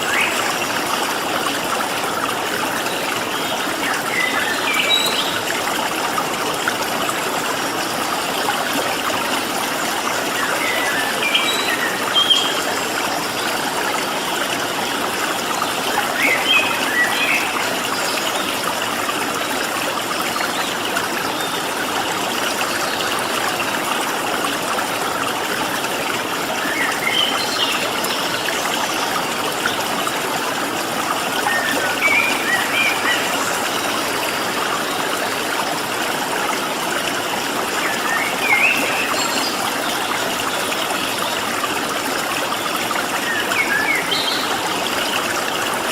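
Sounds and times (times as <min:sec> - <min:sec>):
stream running over rocks: 0:00.0 - 0:45.9.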